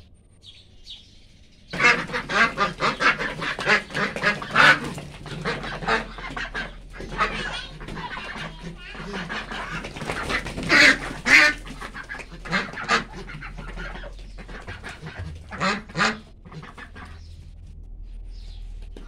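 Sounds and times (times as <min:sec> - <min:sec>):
flock of ducks quacking: 0:01.7 - 0:17.4
loud harsh duck quacks: 0:01.8 - 0:17.3.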